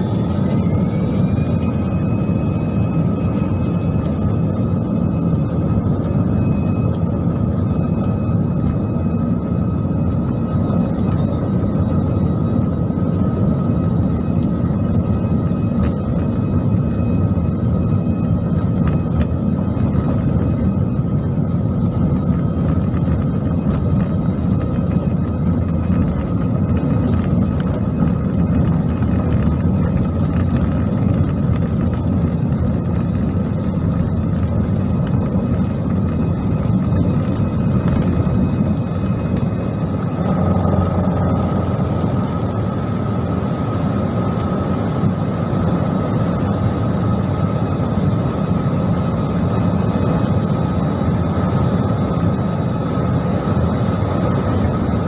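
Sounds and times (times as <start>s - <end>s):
jet engines roaring: 0.0s - 55.0s
thin engine whine: 0.0s - 55.0s.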